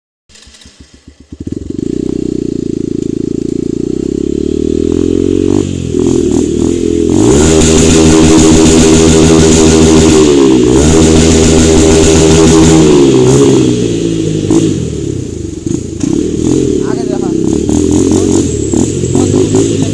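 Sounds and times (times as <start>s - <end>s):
motorcycle engine idling and revving: 0.3s - 19.9s.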